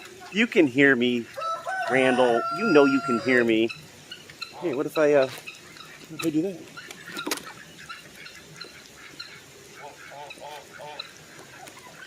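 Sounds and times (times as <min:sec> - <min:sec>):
rain hissing: 0:00.0 - 0:12.0
waterfowl honking: 0:00.0 - 0:12.0.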